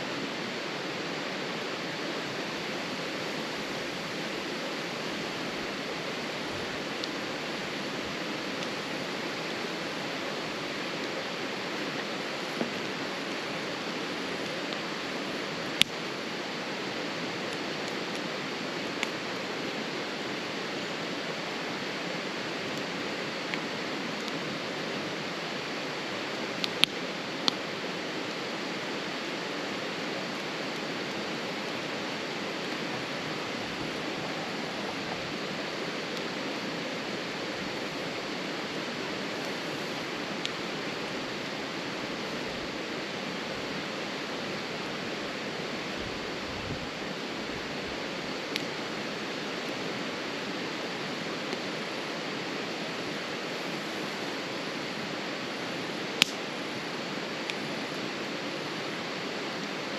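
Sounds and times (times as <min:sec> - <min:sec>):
campfire burning: 0:00.0 - 0:59.9
steady rushing noise: 0:00.0 - 0:59.9.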